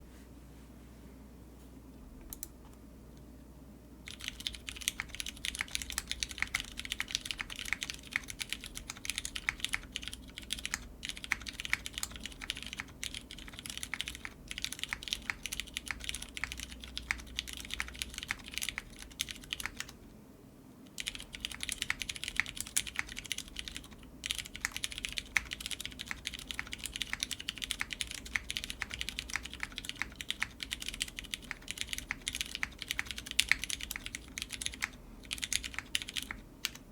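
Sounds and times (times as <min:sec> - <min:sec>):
mechanical keyboard typing: 0:04.1 - 0:20.0, 0:21.0 - 0:36.9.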